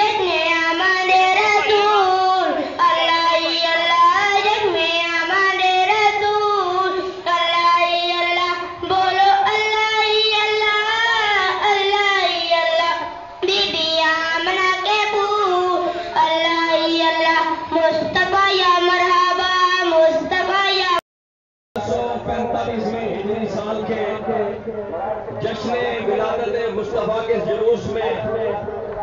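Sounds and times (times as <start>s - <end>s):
boy singing through loudspeakers: 0.0s - 21.0s, 21.8s - 29.0s.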